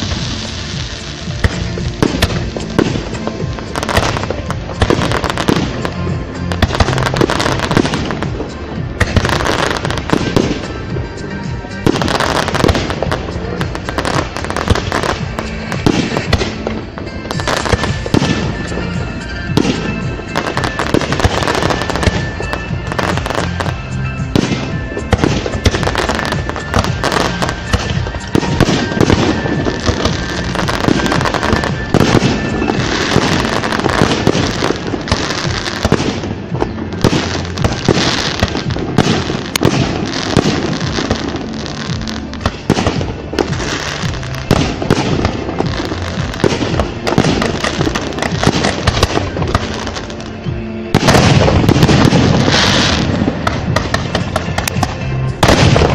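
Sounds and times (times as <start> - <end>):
fireworks bangs and crackles: 0.0 - 55.9
music playing: 0.0 - 55.9.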